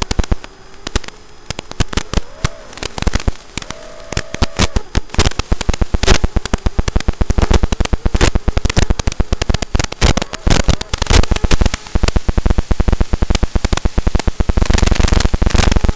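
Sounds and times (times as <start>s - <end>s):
crackling static pops and hiss: 0.0s - 15.9s
faint buzz: 0.0s - 15.9s.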